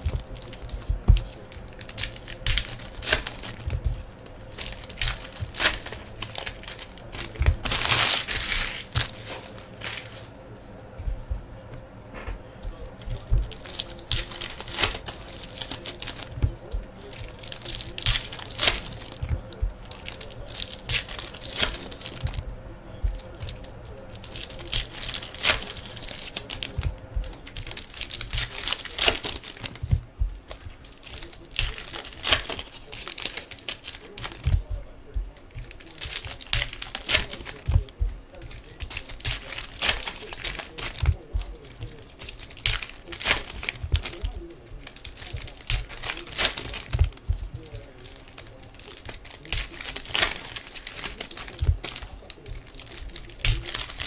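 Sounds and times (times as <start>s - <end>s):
foil wrappers crinkling and tearing: 0.0s - 54.0s.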